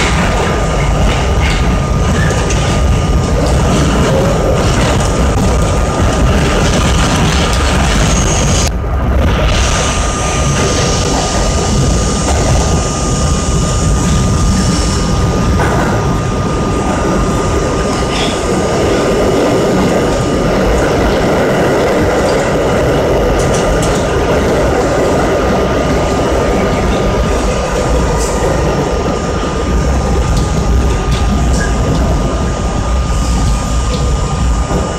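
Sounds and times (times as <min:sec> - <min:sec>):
subway train rumbling: 0:00.0 - 0:34.9
thin steady whine: 0:00.0 - 0:34.9.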